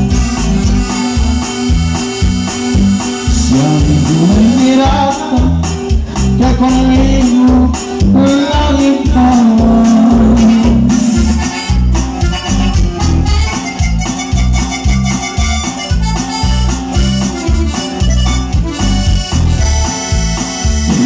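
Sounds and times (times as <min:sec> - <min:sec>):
accordion: 0:00.0 - 0:21.0
band playing latin dance music: 0:00.0 - 0:21.0.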